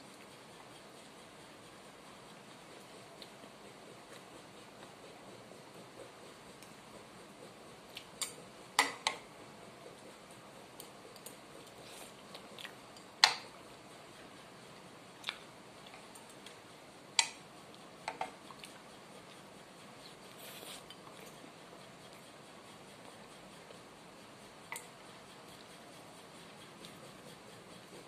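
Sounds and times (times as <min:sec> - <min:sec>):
quiet chewing: 0:00.0 - 0:28.0.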